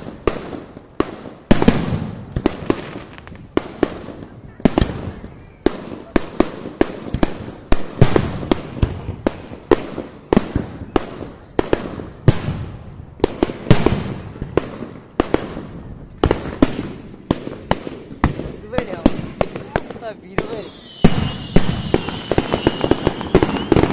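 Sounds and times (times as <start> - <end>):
fireworks bursting: 0.0 - 23.9.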